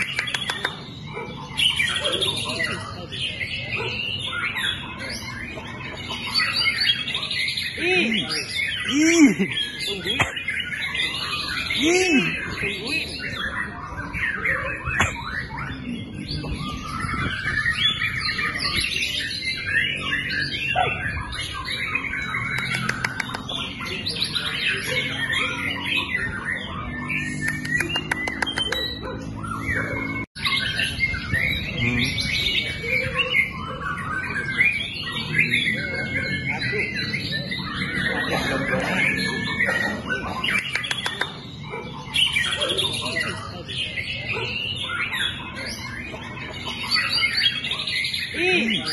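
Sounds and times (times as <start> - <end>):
bird singing chirps and whistles: 0.0 - 48.9.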